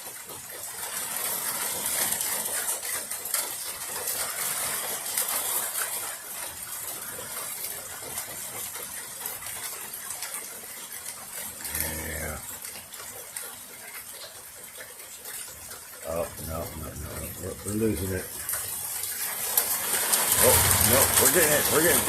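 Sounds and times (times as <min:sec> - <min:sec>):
rain hiss and patter: 0:00.0 - 0:22.0.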